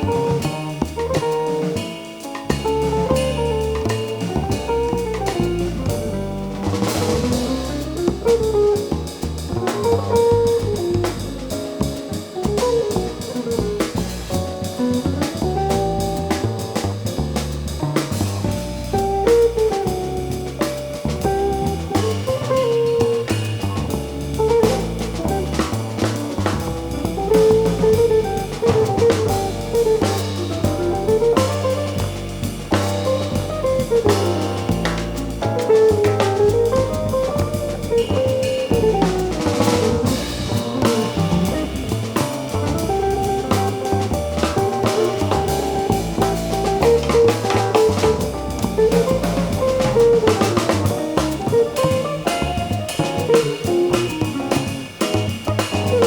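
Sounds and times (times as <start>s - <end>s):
guitar melody: 0.0s - 14.0s, 14.6s - 17.2s, 18.8s - 56.0s
drum kit with cymbal strikes: 0.0s - 56.0s
stepping bass line: 0.0s - 56.0s.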